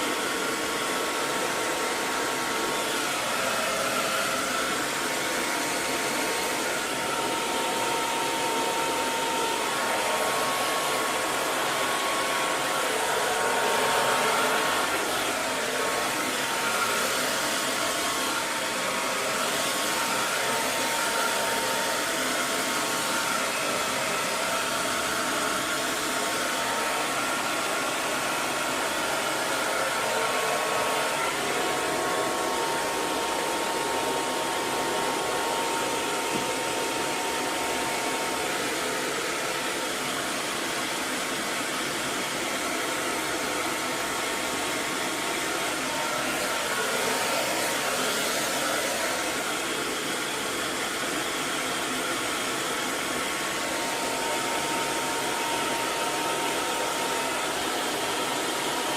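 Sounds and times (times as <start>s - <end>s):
hair dryer blowing: 0.0s - 58.9s.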